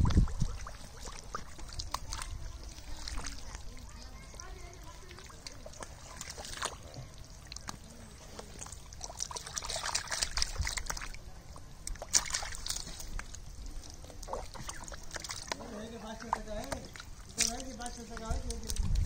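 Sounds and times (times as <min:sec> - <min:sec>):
muddy water sloshing and splashing: 0:00.0 - 0:19.0.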